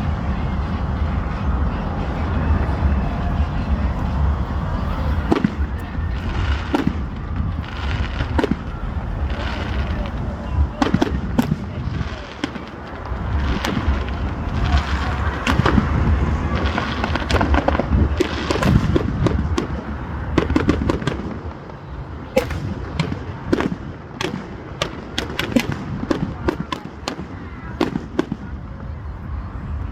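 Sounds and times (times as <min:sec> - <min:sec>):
fireworks crackling pops: 0:00.0 - 0:29.8
fireworks low rumbling bangs: 0:00.0 - 0:29.9.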